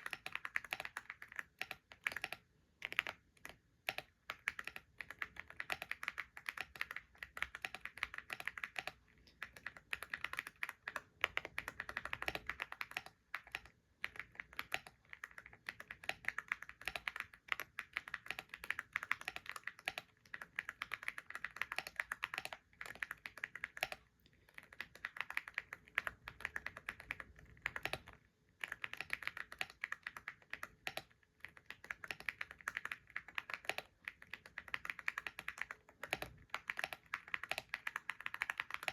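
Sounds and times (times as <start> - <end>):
keyboard typing: 0.0 - 38.9.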